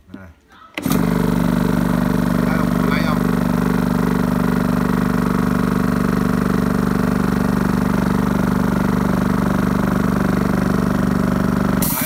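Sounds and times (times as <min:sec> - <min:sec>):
air compressor running: 0:00.8 - 0:12.0.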